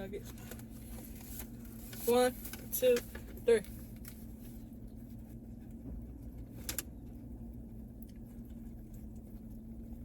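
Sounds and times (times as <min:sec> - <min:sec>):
low hum inside running car: 0:00.0 - 0:10.0.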